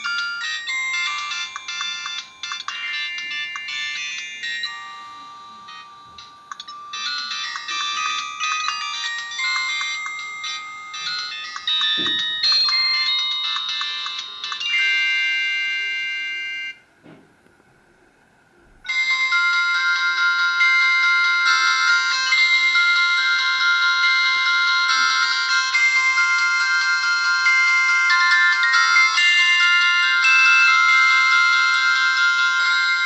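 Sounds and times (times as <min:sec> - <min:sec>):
polyphonic midi ringtone: 0:00.0 - 0:16.8, 0:18.9 - 0:33.0.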